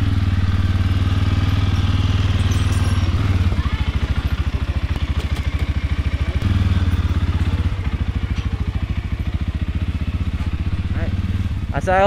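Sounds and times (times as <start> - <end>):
engine chugging at low revs: 0.0 - 12.0.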